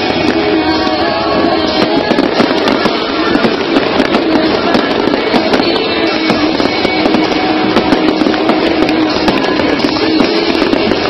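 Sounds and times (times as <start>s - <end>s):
fireworks bursting and crackling: 0.0s - 11.0s
music playing: 0.0s - 11.0s.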